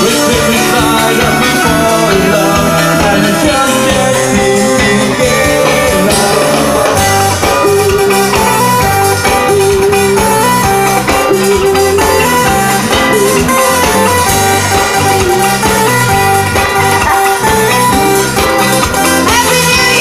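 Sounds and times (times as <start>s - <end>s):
guitar: 0.0s - 20.0s
live band playing: 0.0s - 20.0s
person singing: 0.0s - 20.0s.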